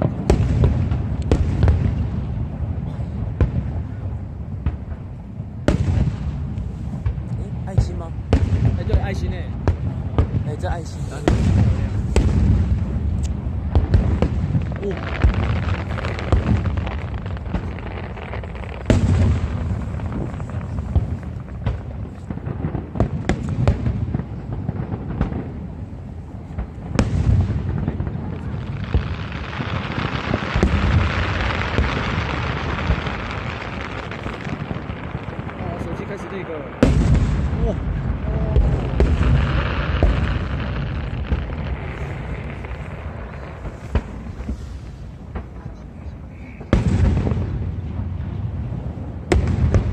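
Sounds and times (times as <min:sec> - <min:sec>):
firework booms: 0:00.0 - 0:49.9
firework crackling: 0:00.0 - 0:49.9.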